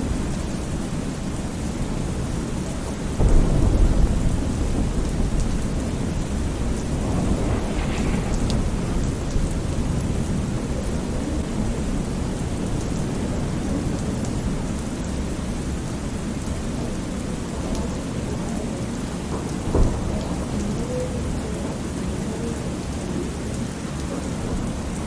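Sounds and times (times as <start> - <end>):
rolling thunder: 0.0 - 22.9
steady rain: 0.0 - 25.0.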